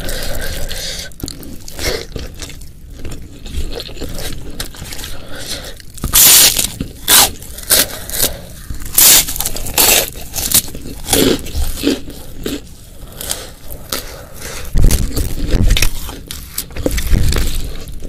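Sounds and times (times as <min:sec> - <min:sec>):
crisp chewing mouth noises: 0:00.0 - 0:18.0.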